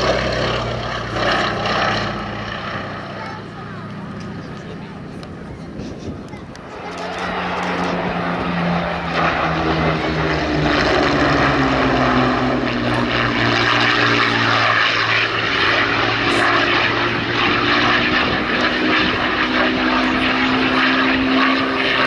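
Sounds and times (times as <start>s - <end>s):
radial aircraft engine flying past: 0.0s - 22.0s.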